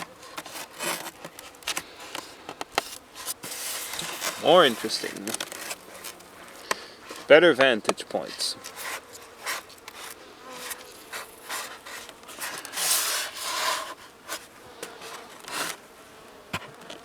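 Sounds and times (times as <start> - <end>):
tape rubbing and scraping on wood: 0.0 - 7.3, 7.9 - 15.8
long rasping noise: 0.0 - 15.8
honeybees humming: 0.0 - 17.0.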